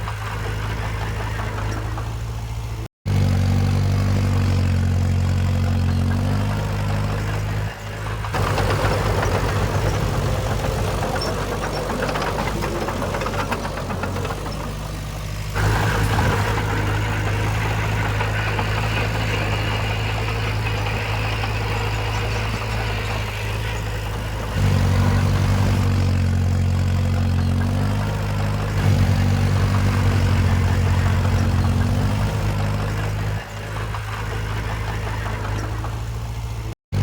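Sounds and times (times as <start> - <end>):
rattling and clatter: 0.0 - 2.9, 4.4 - 37.0
heavy machinery diesel engine: 0.0 - 37.0.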